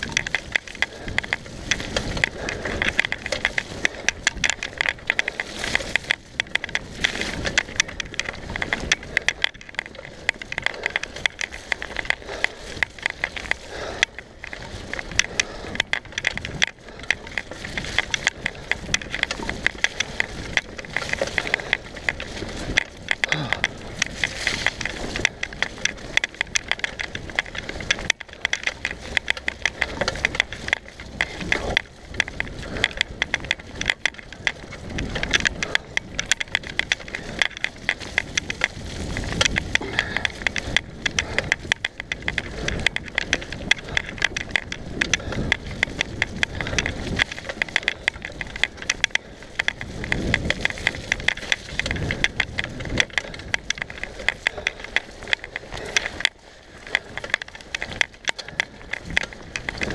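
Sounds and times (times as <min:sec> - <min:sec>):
bike rattling over bumps: 0:00.0 - 0:59.9
bike tyres on dirt: 0:00.0 - 0:59.9.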